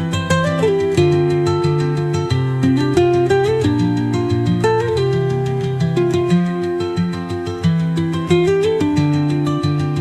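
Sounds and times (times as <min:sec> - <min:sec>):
plucked guitar music with beat: 0:00.0 - 0:10.0.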